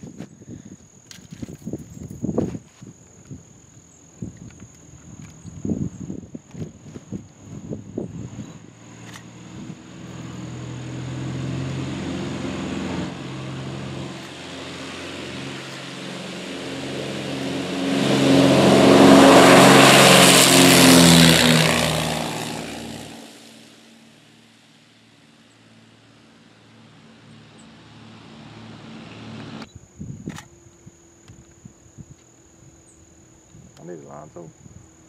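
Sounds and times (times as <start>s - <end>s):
twin propeller airplane engines: 0.0s - 35.0s.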